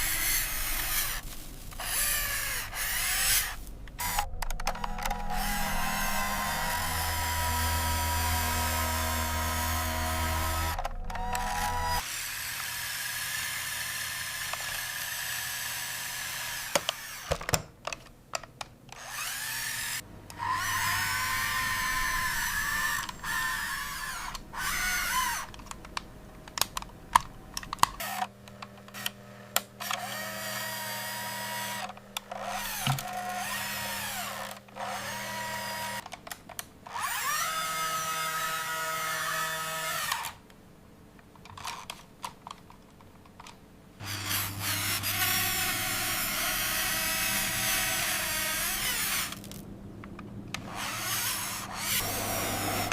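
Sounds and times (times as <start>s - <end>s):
small electric motor whirring: 0.0s - 17.3s, 19.0s - 25.6s, 28.0s - 28.3s, 28.9s - 36.0s, 36.9s - 40.4s, 44.0s - 49.6s, 50.6s - 52.9s.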